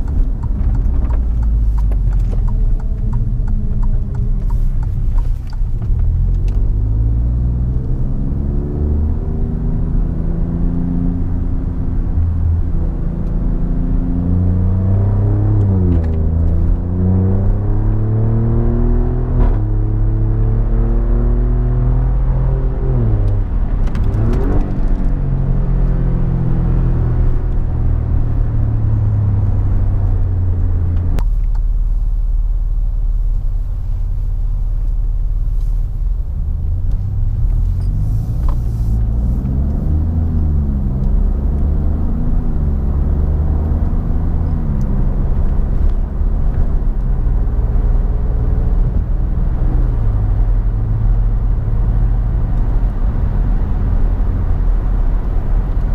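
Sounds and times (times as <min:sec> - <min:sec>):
car engine drone from inside cabin: 0:00.0 - 0:55.9.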